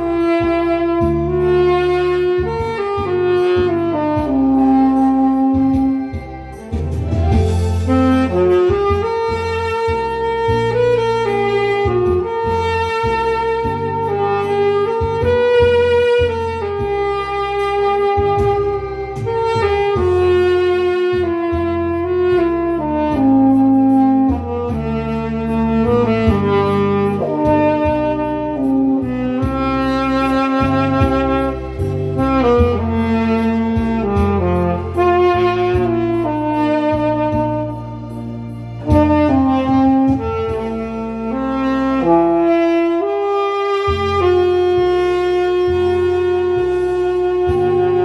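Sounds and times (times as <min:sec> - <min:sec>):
backing track with bass and beat: 0:00.0 - 0:48.0
tenor saxophone melody: 0:00.0 - 0:48.0.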